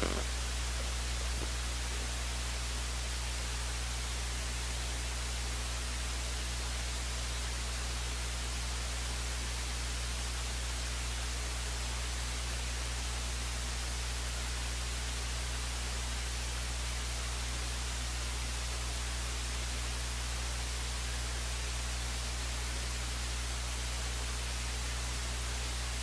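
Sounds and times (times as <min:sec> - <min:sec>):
low electrical hum: 0:00.0 - 0:26.0
steady hiss: 0:00.0 - 0:26.0.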